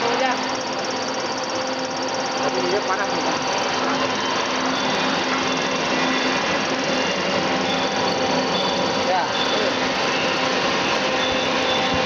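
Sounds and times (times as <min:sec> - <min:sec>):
rice processing machine running: 0:00.0 - 0:12.0.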